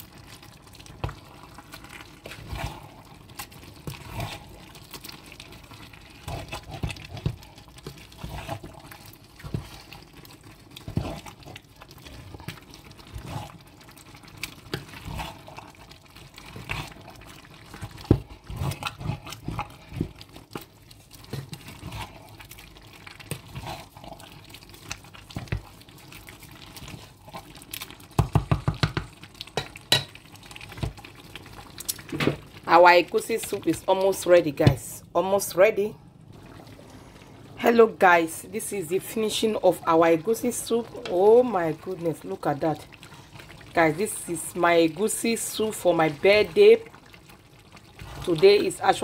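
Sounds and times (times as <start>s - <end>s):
soup simmering with plops: 0.0s - 34.8s, 36.2s - 37.5s, 39.0s - 49.0s.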